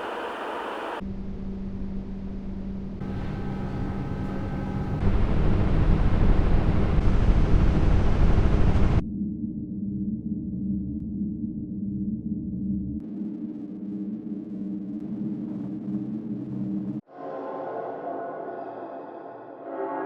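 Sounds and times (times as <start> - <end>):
muffled low drone: 0.0 - 17.0
dark low drone: 0.0 - 19.5.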